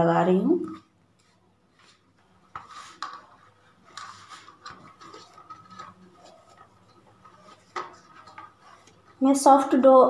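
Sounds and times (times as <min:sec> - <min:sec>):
dough kneaded in metal bowl: 0:00.0 - 0:10.0.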